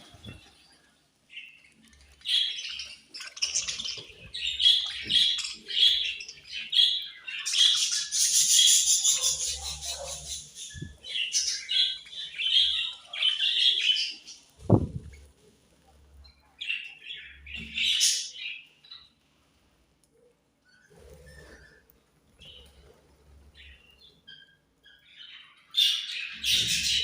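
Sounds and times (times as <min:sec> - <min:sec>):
budgies chirping and chattering: 0:00.0 - 0:15.3, 0:16.2 - 0:19.2, 0:20.6 - 0:27.0.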